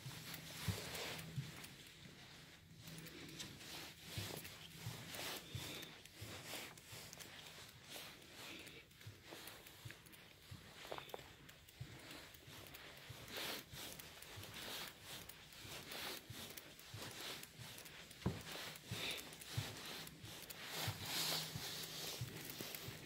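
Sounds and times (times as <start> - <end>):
footsteps on carpet: 0.0 - 23.0
rustling hiss: 2.8 - 23.0.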